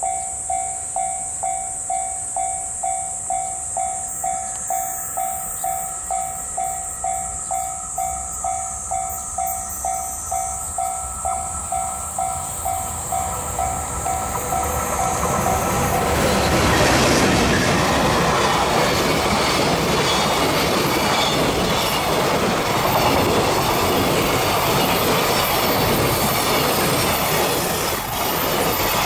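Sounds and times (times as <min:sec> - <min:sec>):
level crossing alarm ringing: 0:00.0 - 0:29.0
train rumble: 0:00.0 - 0:29.0.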